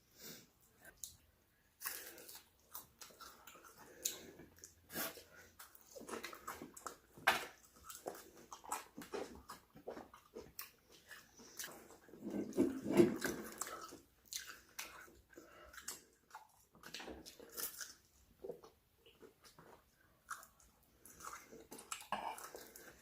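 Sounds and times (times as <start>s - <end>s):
chewing and mouth smacking: 1.8s - 23.0s.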